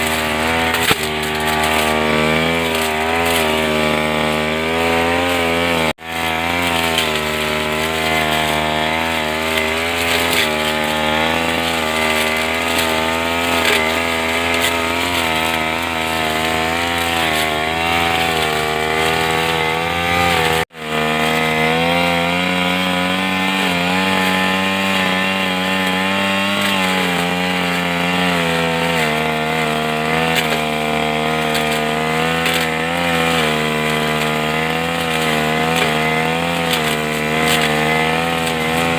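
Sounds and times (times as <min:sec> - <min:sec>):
grass cutter engine running: 0:00.0 - 0:38.9.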